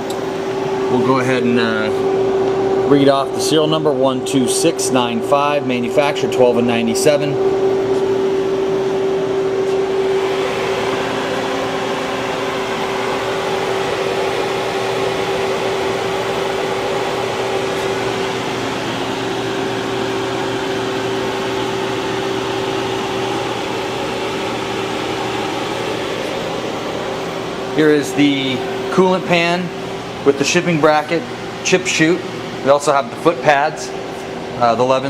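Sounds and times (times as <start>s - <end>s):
milling machine humming idle: 0.0s - 35.0s.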